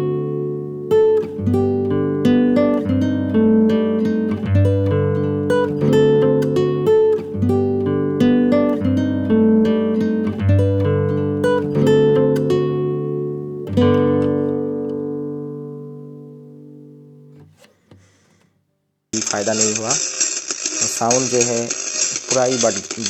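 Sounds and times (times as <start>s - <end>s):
acoustic guitar through amplifier: 0.0s - 18.6s, 19.2s - 23.0s.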